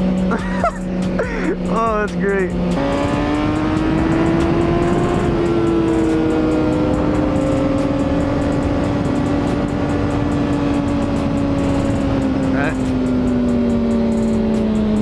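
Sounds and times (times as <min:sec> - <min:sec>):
motorcycle engine high revs: 0:01.0 - 0:15.0.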